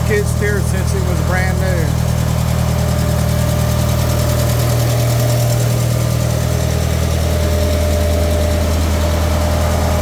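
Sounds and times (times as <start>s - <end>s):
gasoline engine idling: 0.0s - 10.0s.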